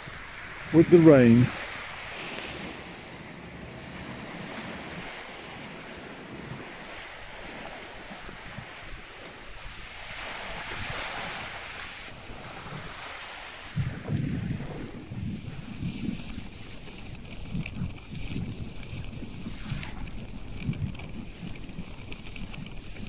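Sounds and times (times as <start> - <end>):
water rushing past hull: 0.0 - 23.0
wind buffeting microphone: 0.0 - 23.0.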